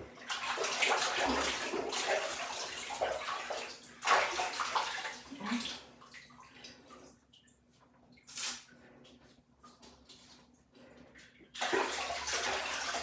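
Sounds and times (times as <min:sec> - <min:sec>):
water splashing in plastic tub: 0:00.0 - 0:13.0.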